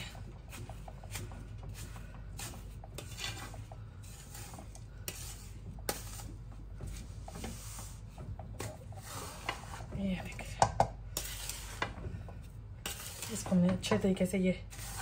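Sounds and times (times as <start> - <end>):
wooden spoon scraping metal pot: 0.0 - 15.0.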